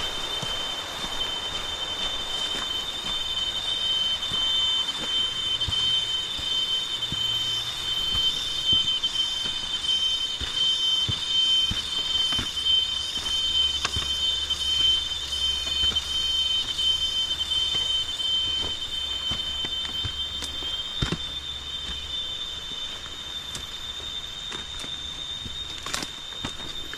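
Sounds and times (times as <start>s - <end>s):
cicadas droning: 0.0s - 26.9s.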